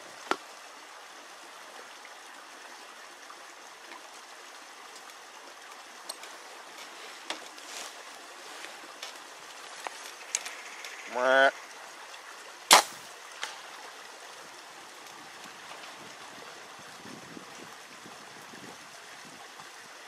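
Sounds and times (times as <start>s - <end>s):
creek rushing: 0.0s - 20.0s.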